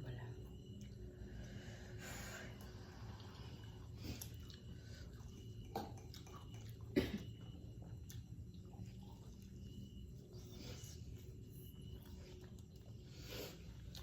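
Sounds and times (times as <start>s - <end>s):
low steady hum: 0.0s - 14.0s
chewing food: 2.5s - 14.0s.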